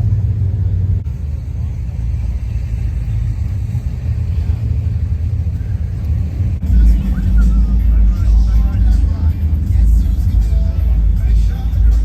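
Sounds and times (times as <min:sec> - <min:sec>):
car engine rumbling at idle: 0:00.0 - 0:12.0.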